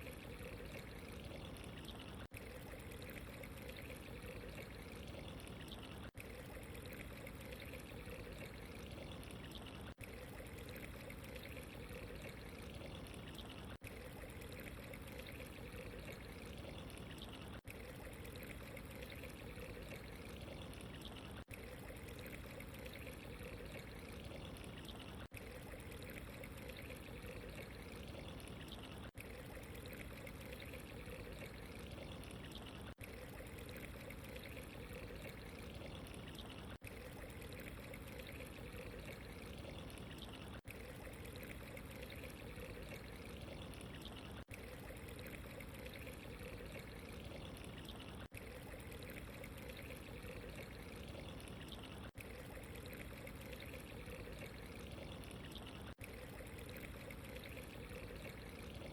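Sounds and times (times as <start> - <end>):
running water trickling: 0.0 - 58.9.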